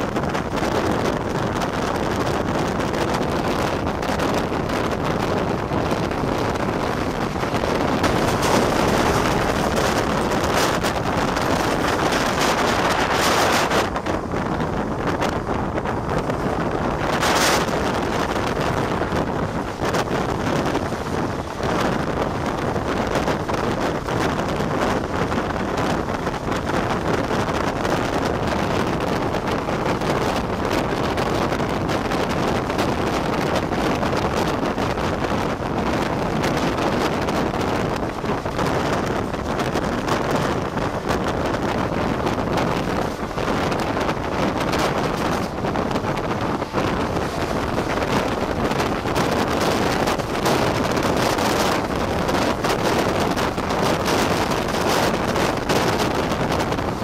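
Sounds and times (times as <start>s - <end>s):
train wheels rumbling and clattering: 0.0s - 57.0s
wind buffeting microphone: 0.0s - 57.0s.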